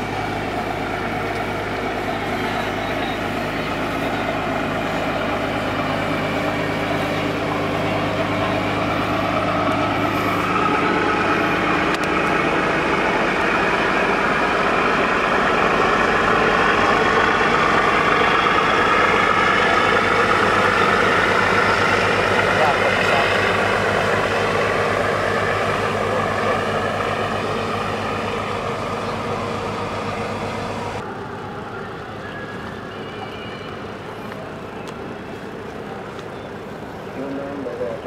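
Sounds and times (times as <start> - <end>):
ship diesel engines droning: 0.0 - 38.0.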